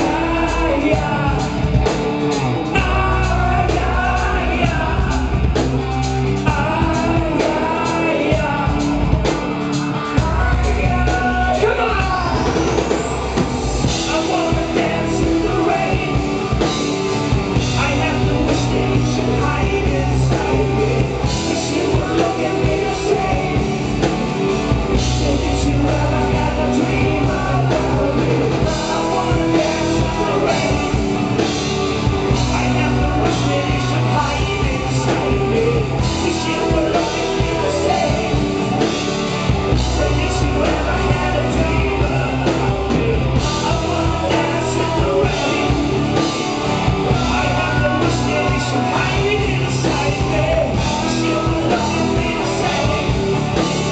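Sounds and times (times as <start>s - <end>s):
live rock band playing: 0.0s - 53.9s
steady drum beat: 0.0s - 53.9s.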